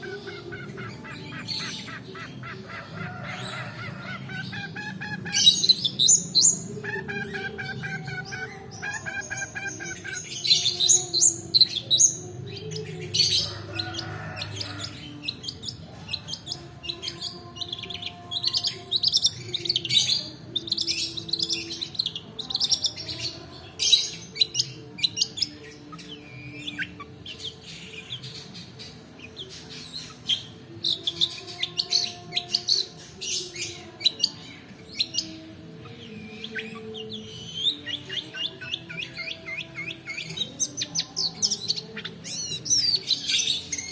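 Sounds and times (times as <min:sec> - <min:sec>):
bird singing rapid chirps and trills: 0:00.0 - 0:43.9.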